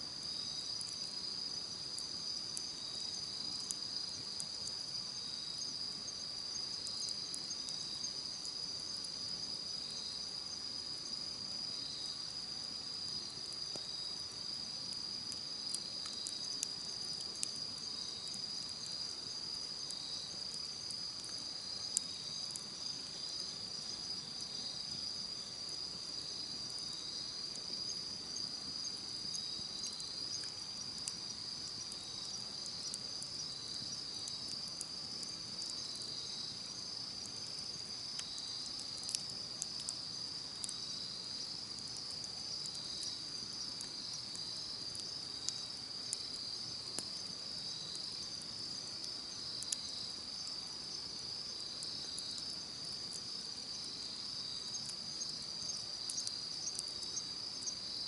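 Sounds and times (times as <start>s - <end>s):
campfire crackling: 0.0s - 58.0s
insects trilling: 0.0s - 58.0s.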